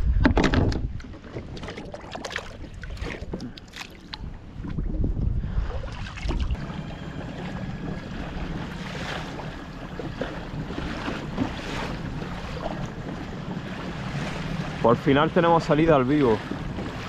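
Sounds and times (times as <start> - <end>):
wind buffeting microphone: 0.0 - 17.0
water splashing along kayak hull: 0.2 - 17.0.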